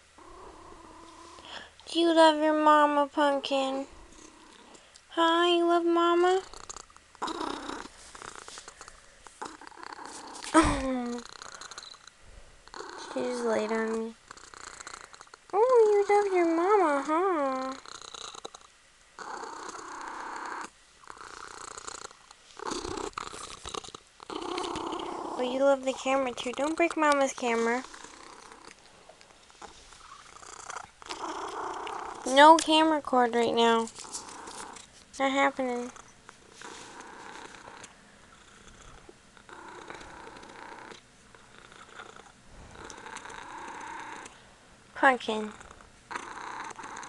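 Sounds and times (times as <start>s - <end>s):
kitten purring: 0.0s - 44.4s, 45.0s - 47.0s.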